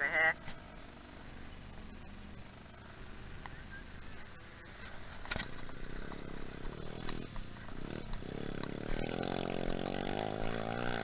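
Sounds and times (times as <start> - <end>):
small petrol engine running: 0.3 - 11.0.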